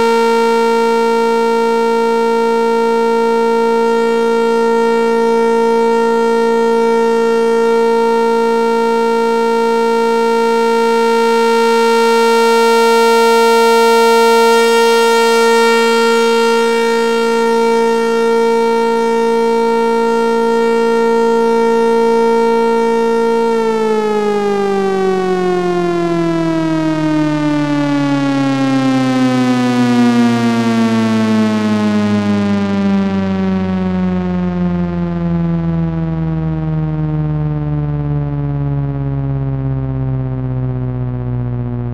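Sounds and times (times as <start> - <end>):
warning sirens: 0.0 - 41.9.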